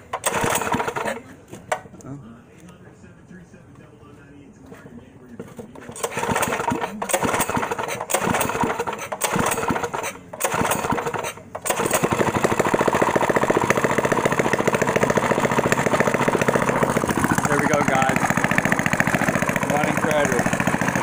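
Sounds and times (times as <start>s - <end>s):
small engine pull-starting: 0.0s - 1.9s, 5.4s - 21.0s
small engine running: 0.0s - 1.9s, 5.4s - 21.0s.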